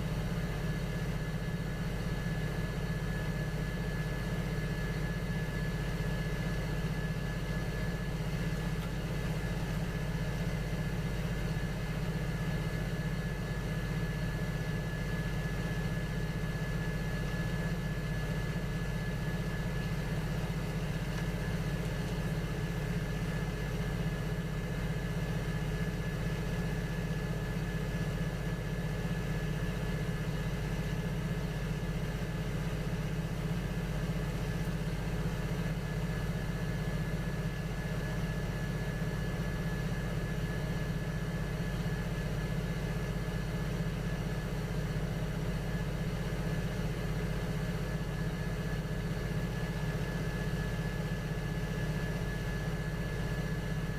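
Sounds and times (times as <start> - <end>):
electric motor hum and whine: 0.0 - 53.9.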